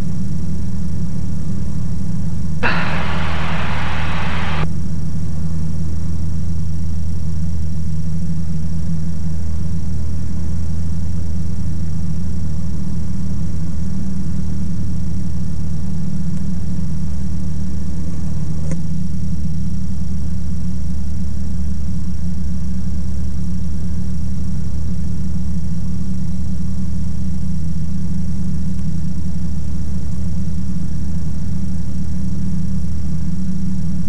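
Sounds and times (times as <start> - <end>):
light aircraft engine and propeller: 0.0 - 34.0.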